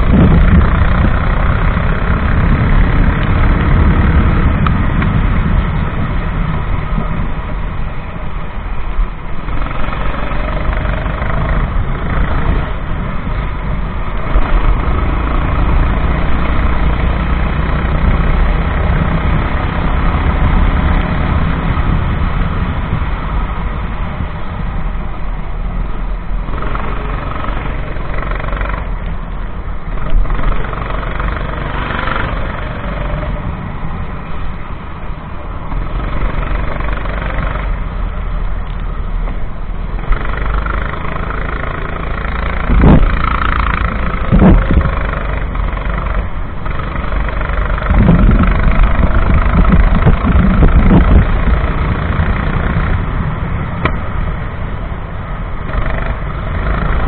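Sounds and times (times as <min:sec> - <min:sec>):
go-kart engine running: 0:00.0 - 0:57.0
heavy rush of noise: 0:00.0 - 0:57.0.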